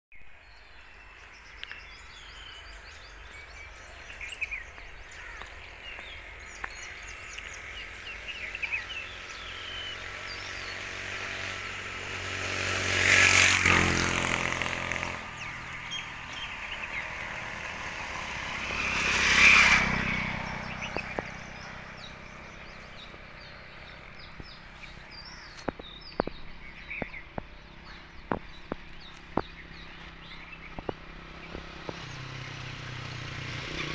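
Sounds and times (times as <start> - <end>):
birds chirping: 0.1 - 33.9
motor vehicles passing: 0.7 - 33.9.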